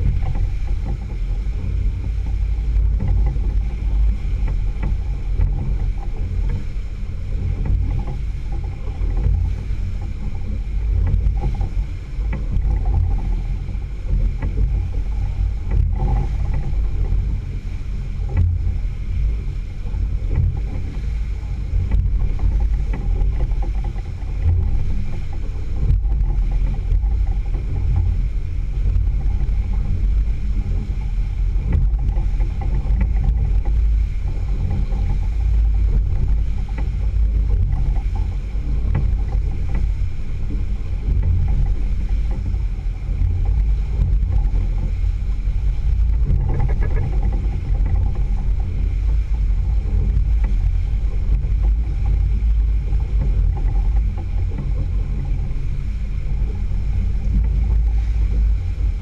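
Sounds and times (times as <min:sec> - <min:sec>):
outboard motor running: 0:00.0 - 0:59.0
water rushing past hull: 0:00.0 - 0:59.0
wind rumble on microphone: 0:00.0 - 0:59.0.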